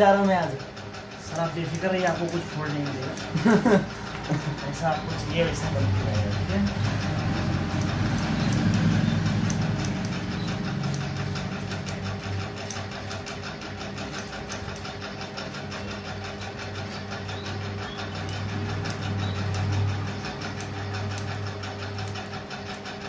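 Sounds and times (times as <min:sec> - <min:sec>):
electric hair clipper buzzing: 0:01.2 - 0:14.9, 0:18.2 - 0:23.0.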